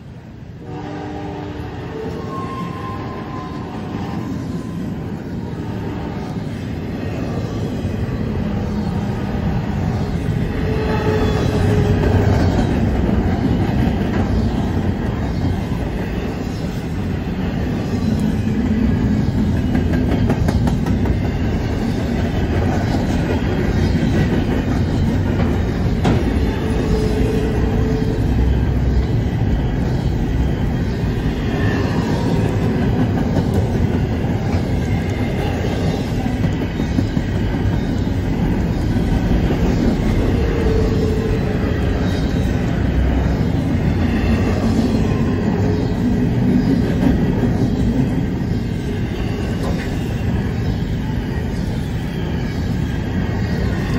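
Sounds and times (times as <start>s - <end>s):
train rumble and wheel clatter: 0.0s - 53.9s.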